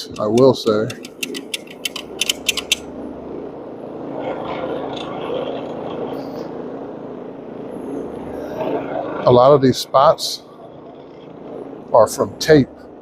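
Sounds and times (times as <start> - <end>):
carpet cleaning machine drone: 0.0 - 13.0.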